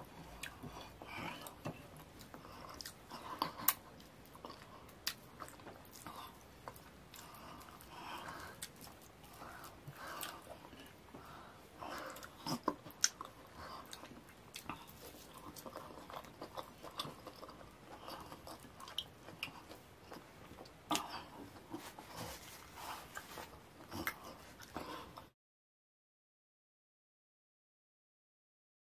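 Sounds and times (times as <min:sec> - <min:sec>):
chewing: 0:00.1 - 0:25.3.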